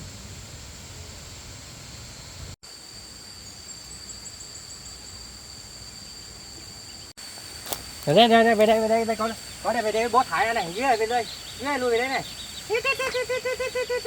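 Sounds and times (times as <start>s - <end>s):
faint hiss: 0.0s - 14.0s
faint rapid insect chirps: 0.0s - 14.0s
insects droning: 0.0s - 14.0s
lower steady insect tone: 0.0s - 14.0s.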